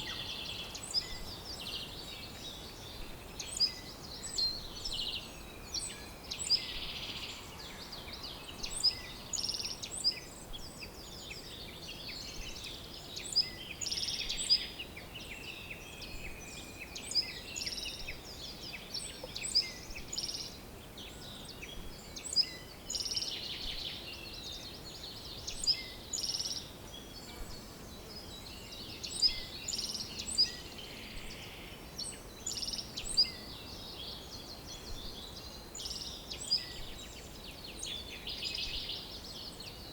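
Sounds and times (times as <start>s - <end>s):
faint background hiss: 0.0s - 39.9s
songbirds chirping: 0.0s - 39.9s.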